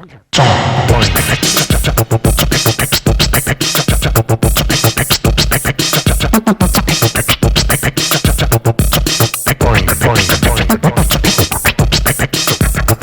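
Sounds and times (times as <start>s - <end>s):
deep bass pulses: 0.4s - 5.5s, 6.2s - 12.9s
fast drum machine beat: 0.4s - 13.0s
record scratching: 0.4s - 13.0s.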